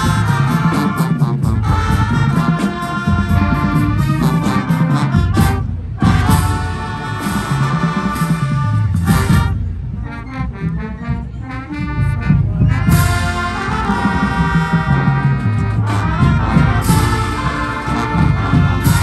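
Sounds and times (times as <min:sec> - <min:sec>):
bass drums: 0:00.0 - 0:19.0
marching band brass: 0:00.0 - 0:19.0.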